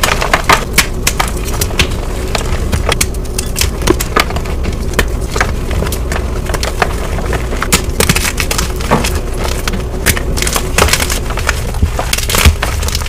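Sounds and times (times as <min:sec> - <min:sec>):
chalk crunching and crackling: 0:00.0 - 0:13.0
steady low rumble: 0:00.0 - 0:13.0.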